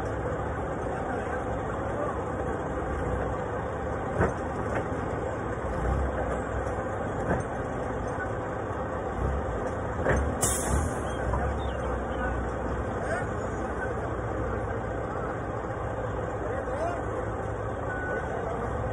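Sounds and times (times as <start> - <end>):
forklift engine running: 0.0 - 18.9.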